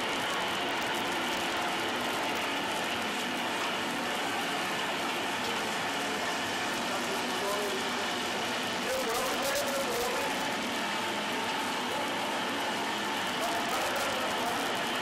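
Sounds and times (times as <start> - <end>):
gas burners roaring: 0.0 - 15.0.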